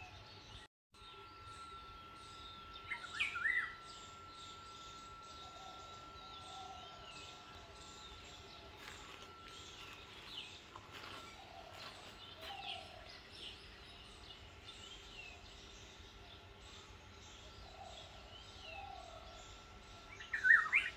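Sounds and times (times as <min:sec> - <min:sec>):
birds chirping: 0:00.0 - 0:20.9
thin steady high tone: 0:01.0 - 0:20.9.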